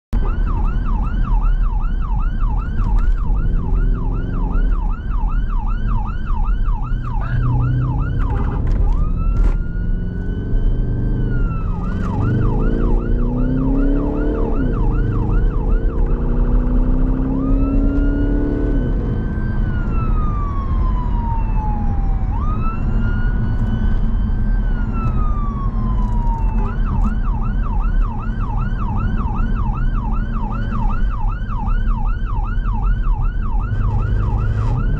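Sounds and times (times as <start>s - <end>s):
engine and road rumble: 0.1s - 34.9s
siren yelping and wailing: 0.2s - 34.9s.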